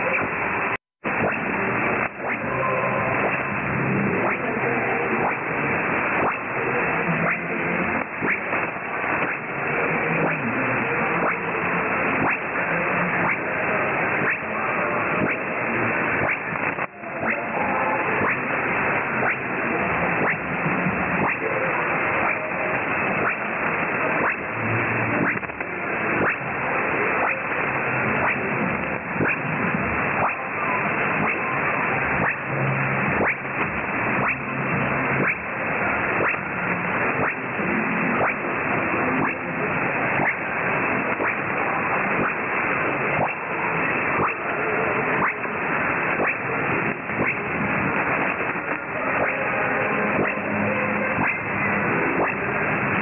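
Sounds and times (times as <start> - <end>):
faint radio programme audio: 0.0 - 53.0
radio static hiss and crackling: 0.0 - 53.0.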